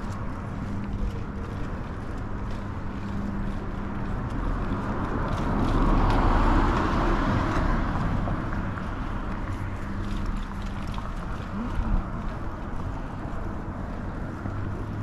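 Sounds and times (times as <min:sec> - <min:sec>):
car passing by: 0:02.6 - 0:15.0.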